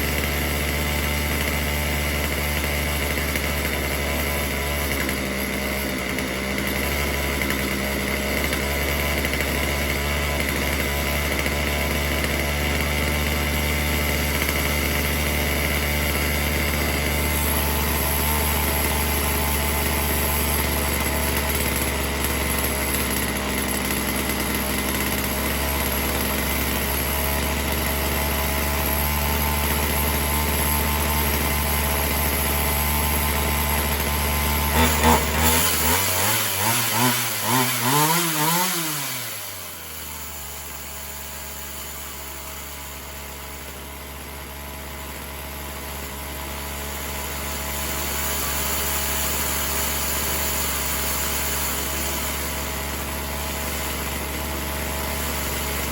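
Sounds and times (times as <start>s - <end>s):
chainsaw idling and revving: 0.0s - 55.9s.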